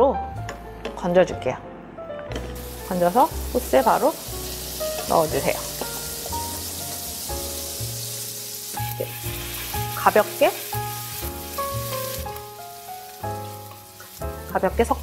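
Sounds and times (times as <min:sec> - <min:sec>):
background music of held notes: 0:00.0 - 0:15.0
butter sizzling in a frying pan: 0:02.6 - 0:15.0.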